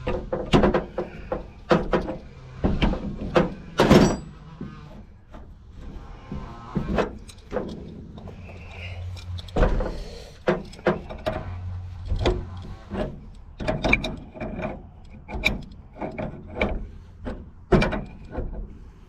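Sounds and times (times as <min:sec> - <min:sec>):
wrench clicking and clanking on metal: 0:00.0 - 0:04.4, 0:06.9 - 0:18.6.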